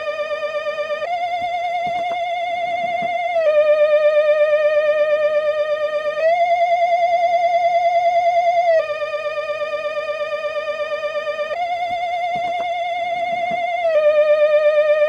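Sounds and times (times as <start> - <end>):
theremin-style electronic wail: 0.0 - 15.0.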